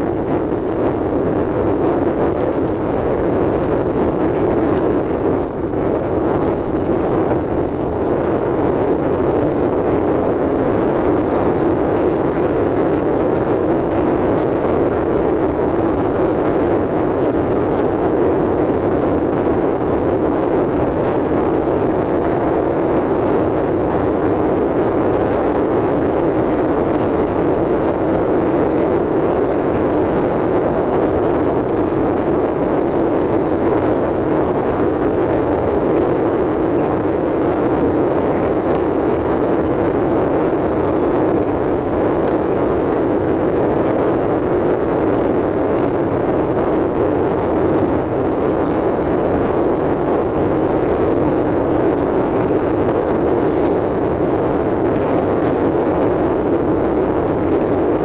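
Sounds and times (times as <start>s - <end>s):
rushing noise inside car cabin: 0.0s - 58.0s.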